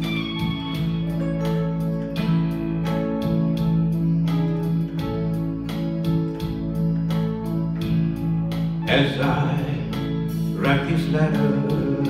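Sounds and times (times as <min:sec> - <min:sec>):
bass: 0:00.0 - 0:12.0
electric guitar picking melody: 0:00.0 - 0:12.0
steady ticking beat: 0:00.0 - 0:12.0
sustained keyboard chords: 0:00.0 - 0:12.0.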